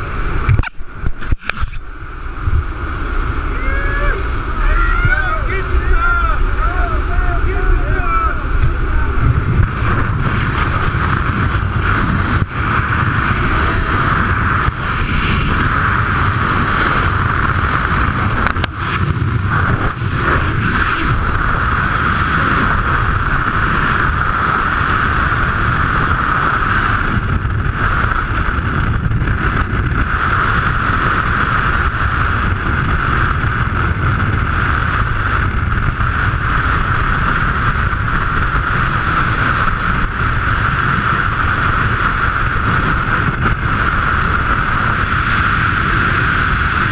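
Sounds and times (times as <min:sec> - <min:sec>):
freefall wind rushing: 0:00.0 - 0:46.9.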